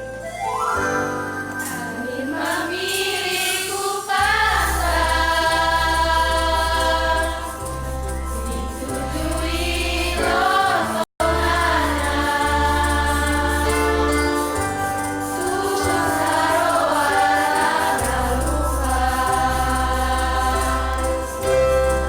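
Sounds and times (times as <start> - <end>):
keyboard and bass accompaniment: 0.0 - 2.8, 4.2 - 22.0
choir singing: 1.5 - 22.0.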